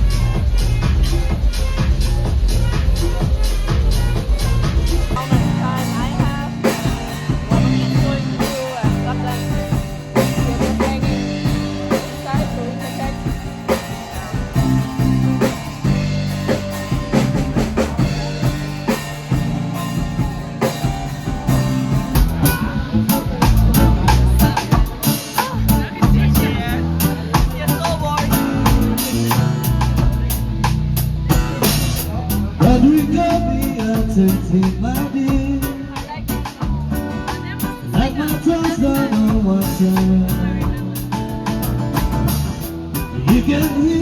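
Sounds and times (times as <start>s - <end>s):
drum and bass beat: 0.0s - 44.0s.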